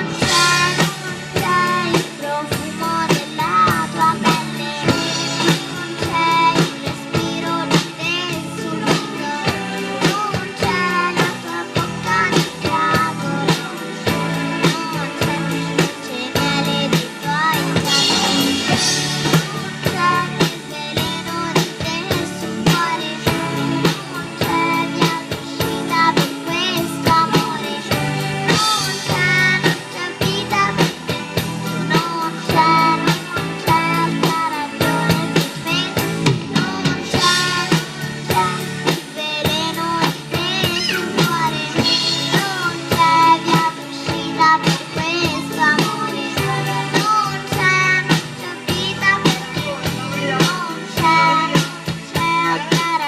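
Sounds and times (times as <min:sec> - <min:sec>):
drum kit beat: 0:00.0 - 0:53.0
person singing: 0:00.0 - 0:53.0.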